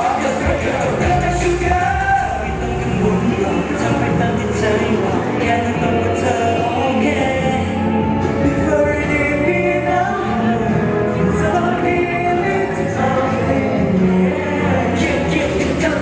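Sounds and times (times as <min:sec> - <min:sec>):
live pop song singing over beat: 0:00.0 - 0:16.0.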